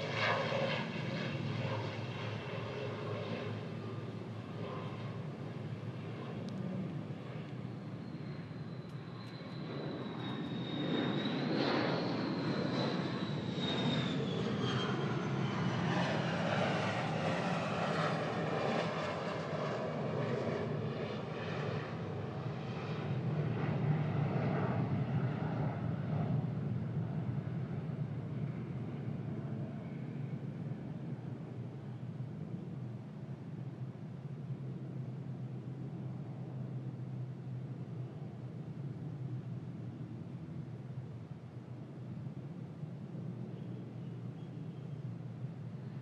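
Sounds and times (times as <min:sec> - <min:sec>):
aircraft engine rumble: 0:00.0 - 0:46.0
jet engine whine: 0:00.0 - 0:46.0.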